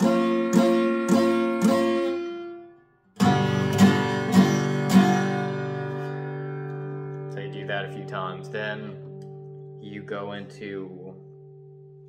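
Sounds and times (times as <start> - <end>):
acoustic guitar strums: 0.0 - 12.0.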